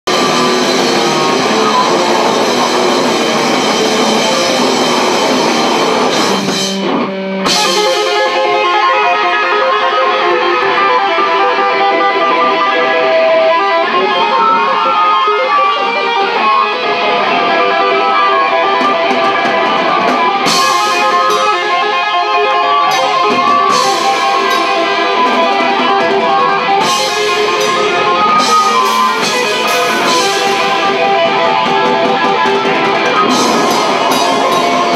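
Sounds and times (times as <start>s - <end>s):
live metal band playing: 0.0s - 34.9s.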